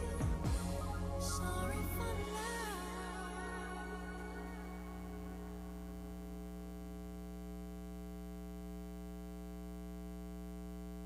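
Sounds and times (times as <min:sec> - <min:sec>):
electrical mains hum: 0:01.4 - 0:11.0.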